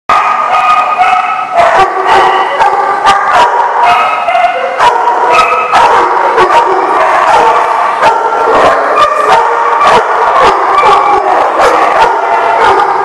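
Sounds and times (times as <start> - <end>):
dogs barking and yipping: 0.1 - 13.0
high-pitched dog calls: 0.1 - 13.0.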